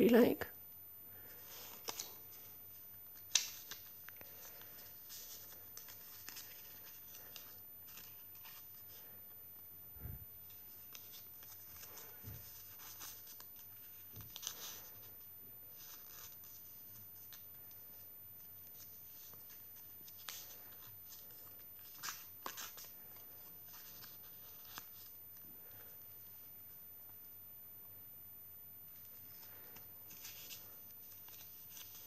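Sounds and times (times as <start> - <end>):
paper pages rustling: 1.2 - 9.2, 10.4 - 26.0, 29.0 - 32.0.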